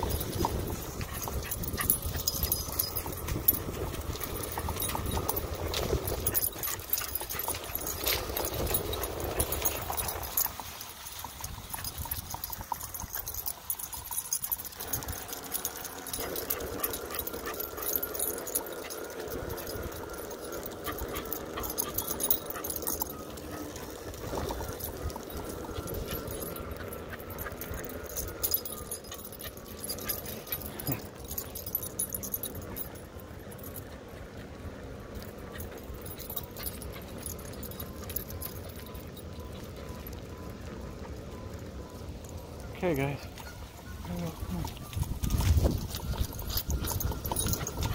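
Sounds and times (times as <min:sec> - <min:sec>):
dog panting: 0:00.0 - 0:41.5, 0:44.3 - 0:47.9
wind rumble on microphone: 0:00.0 - 0:42.2, 0:43.3 - 0:47.9
collar tags jingling: 0:00.0 - 0:47.9.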